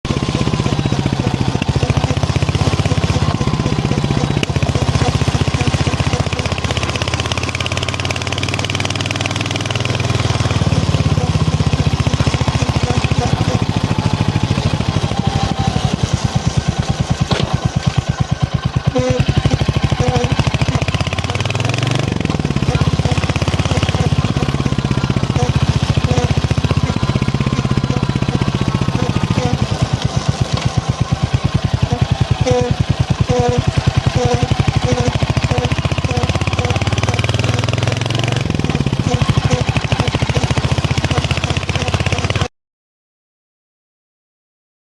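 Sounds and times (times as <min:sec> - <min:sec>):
motorcycle engine running: 0:00.0 - 0:42.5.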